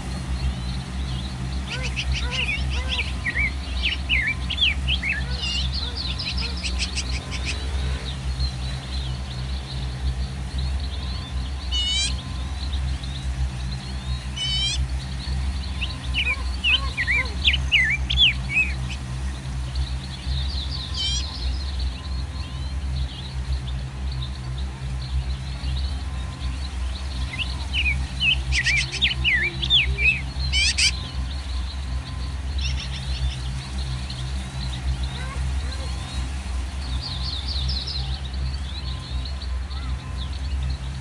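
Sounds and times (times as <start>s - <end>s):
small birds chirping: 0.0s - 41.0s
steady low rumble: 0.0s - 41.0s.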